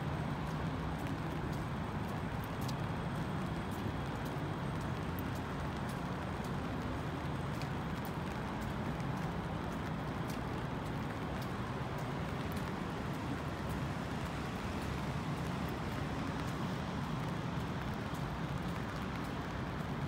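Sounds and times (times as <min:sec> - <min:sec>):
low traffic rumble: 0:00.0 - 0:20.0
rain: 0:00.0 - 0:20.0
light ticks: 0:00.1 - 0:20.0.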